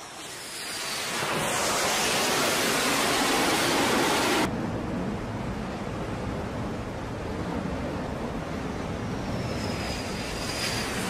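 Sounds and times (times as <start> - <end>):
jet engines at full power: 0.0 - 11.0
wind and sea: 0.0 - 11.0.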